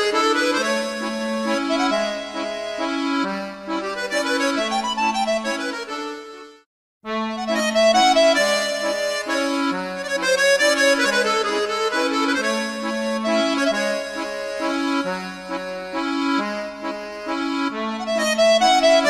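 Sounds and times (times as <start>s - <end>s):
instrumental background music: 0.0s - 19.0s.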